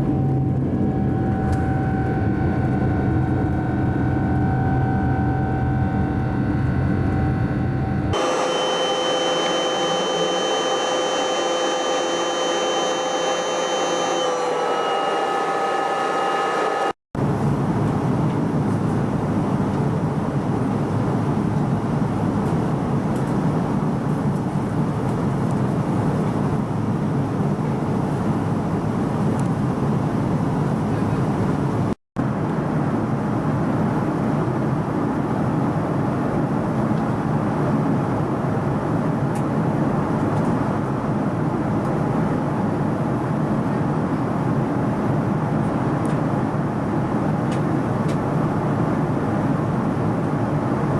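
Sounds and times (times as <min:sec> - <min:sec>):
aircraft engine and airflow roar: 0:00.0 - 0:50.9.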